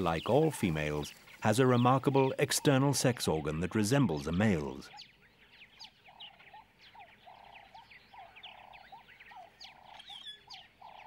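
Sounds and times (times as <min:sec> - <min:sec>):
animals chirping: 0:00.0 - 0:11.0.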